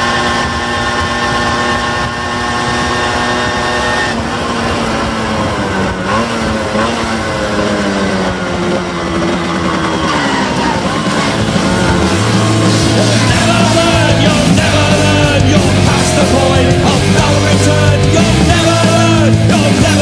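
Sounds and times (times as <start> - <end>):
moped engine running: 0.0 - 20.0
rock music: 0.0 - 20.0.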